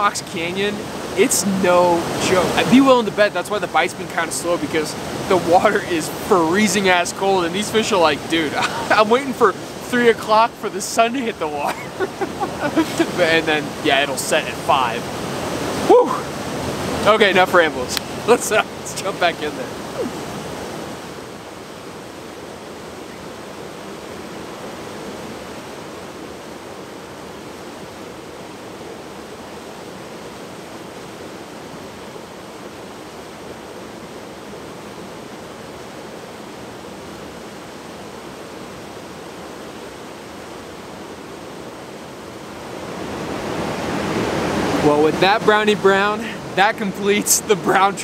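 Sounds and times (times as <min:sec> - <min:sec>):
water rushing in a cascade: 0:00.0 - 0:48.0.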